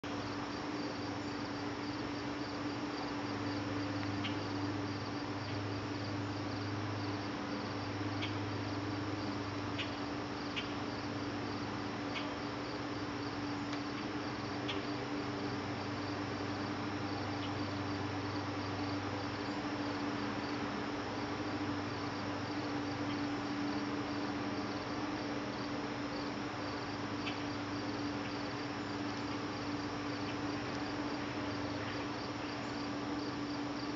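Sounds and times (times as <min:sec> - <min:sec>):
constant low hum: 0:00.0 - 0:33.9
crickets chirping: 0:00.0 - 0:33.9.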